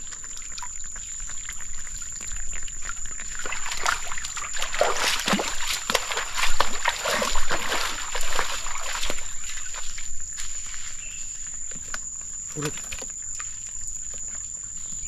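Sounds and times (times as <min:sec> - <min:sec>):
water splashing in a stream: 0:00.0 - 0:14.2.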